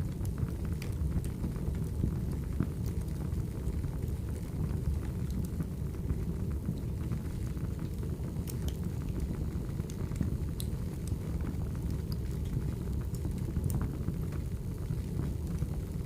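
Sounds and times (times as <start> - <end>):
fire crackles and pops: 0.0 - 16.0
firewood burning: 0.0 - 16.0.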